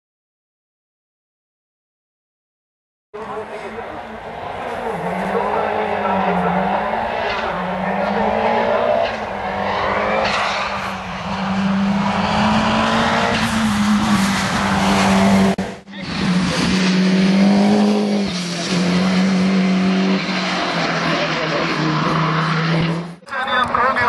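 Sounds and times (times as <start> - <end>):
car engine revving at full throttle: 3.3 - 23.8.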